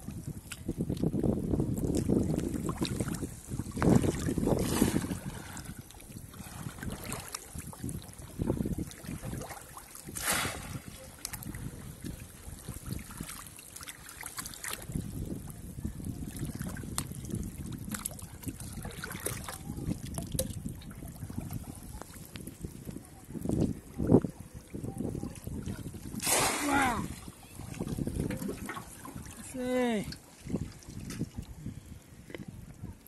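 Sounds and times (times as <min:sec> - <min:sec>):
water sloshing and splashing: 0:00.0 - 0:31.6.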